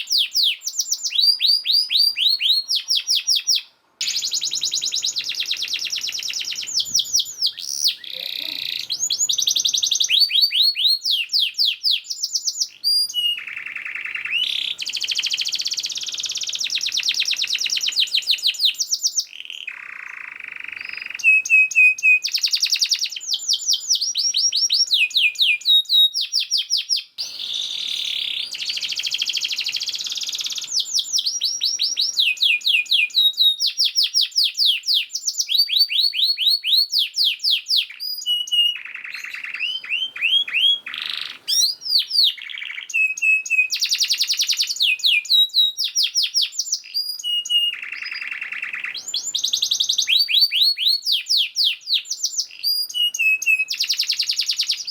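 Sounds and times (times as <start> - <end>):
canary singing rapid trills: 0.0 - 54.9.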